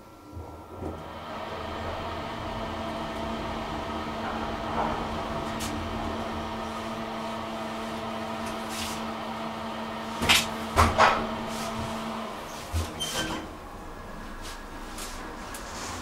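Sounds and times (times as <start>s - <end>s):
machine hum with steady tones: 0.0s - 16.0s.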